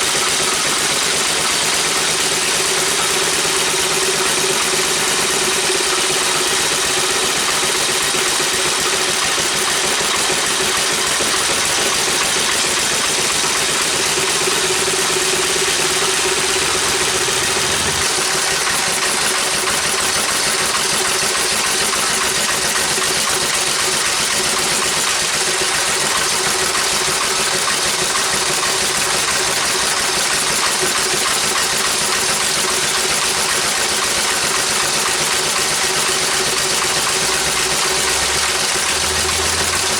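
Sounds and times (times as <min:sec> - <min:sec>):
single-cylinder engine droning: 0:00.0 - 0:31.4, 0:33.0 - 0:39.9.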